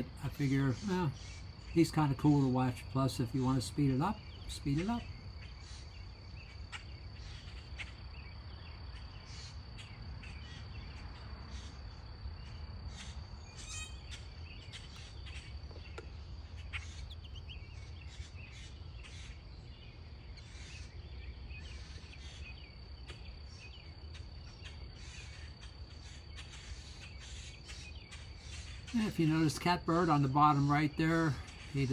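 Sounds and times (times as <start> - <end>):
bird chirps: 0.0 - 31.9
high-pitched insect trill: 0.0 - 31.9.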